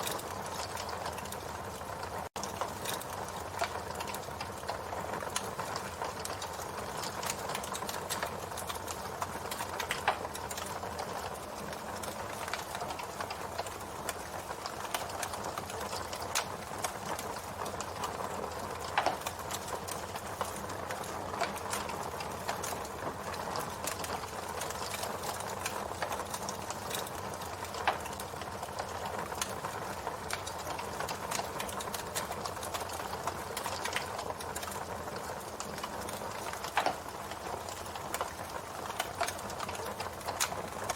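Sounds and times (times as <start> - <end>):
campfire hissing and crackling: 0.0 - 40.9
fire popping: 0.0 - 40.9.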